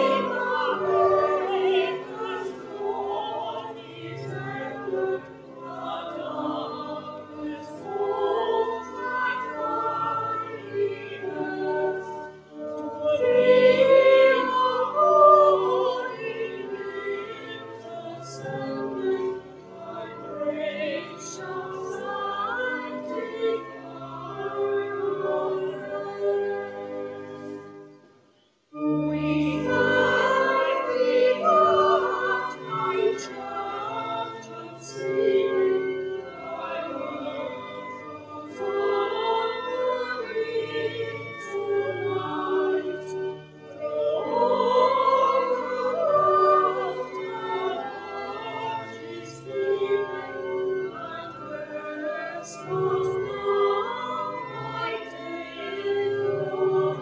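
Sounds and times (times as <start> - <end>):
church choir singing: 0.0 - 27.7, 28.7 - 57.0.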